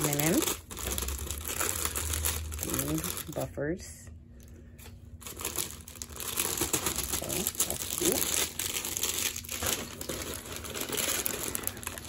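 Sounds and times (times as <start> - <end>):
plastic packaging crinkling: 0.0 - 3.6, 5.1 - 12.0.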